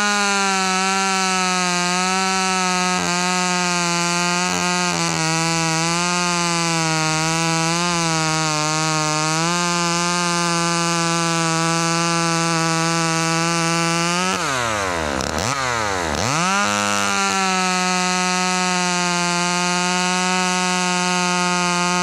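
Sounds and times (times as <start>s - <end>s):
chainsaw cutting log: 0.0s - 22.0s.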